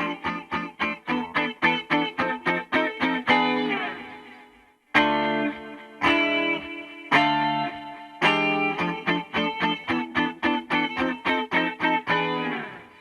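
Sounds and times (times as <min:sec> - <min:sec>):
guitar chords ringing: 0:00.0 - 0:04.4, 0:05.0 - 0:13.0
guitar quick picked notes: 0:00.0 - 0:04.4, 0:05.0 - 0:13.0.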